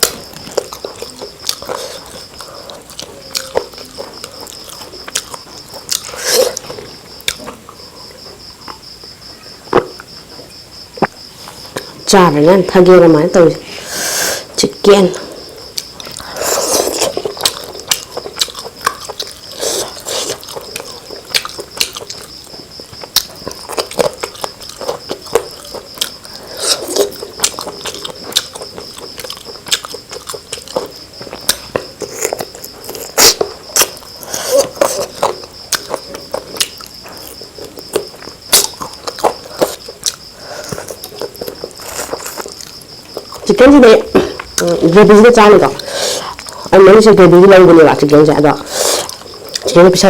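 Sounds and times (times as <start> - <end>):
person chewing with mouth smacks: 0.0 - 9.0, 15.3 - 44.8, 45.8 - 46.7, 48.6 - 49.8.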